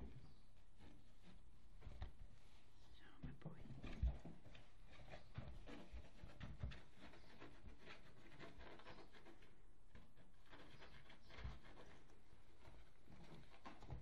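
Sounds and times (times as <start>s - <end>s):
kittens scratching fabric carrier: 0.0s - 14.0s.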